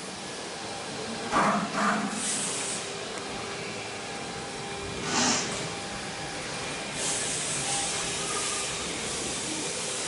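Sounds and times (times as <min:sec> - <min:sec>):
workshop background hiss: 0:00.0 - 0:10.0.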